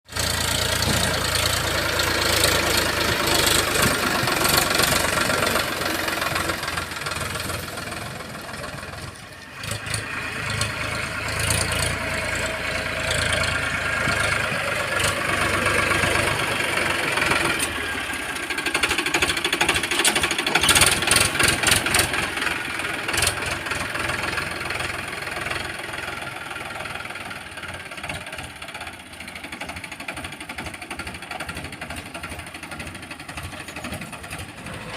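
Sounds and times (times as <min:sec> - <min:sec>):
heavy machinery diesel engine: 0:00.1 - 0:34.9.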